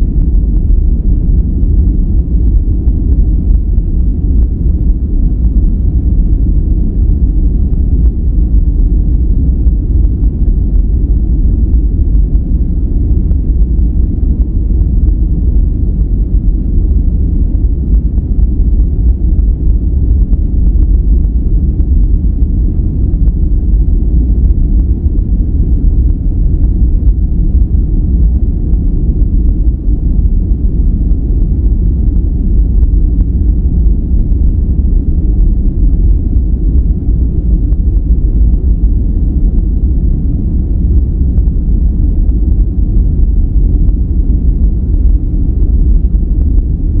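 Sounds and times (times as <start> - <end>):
deep rumbling noise: 0.0 - 47.0.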